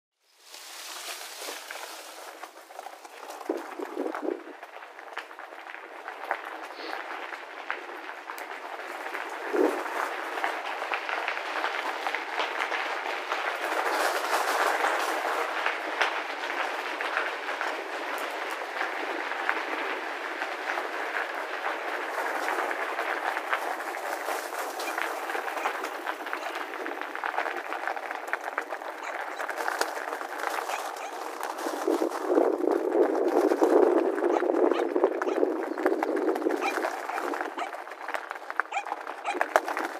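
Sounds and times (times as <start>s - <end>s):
bike tyres crunching on gravel: 0.2s - 39.9s
bike rattling and clicking: 1.0s - 39.9s.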